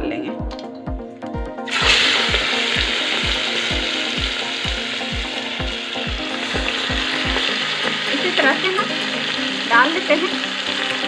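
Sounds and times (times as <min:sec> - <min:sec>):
meat sizzling in hot oil: 0:01.7 - 0:11.0.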